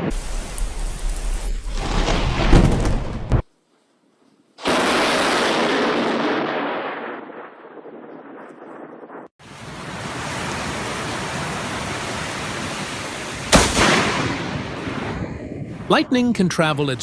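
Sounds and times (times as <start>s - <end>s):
storm noise: 0.0s - 3.4s, 4.6s - 17.0s
thunderclap: 0.0s - 3.4s, 4.6s - 16.0s.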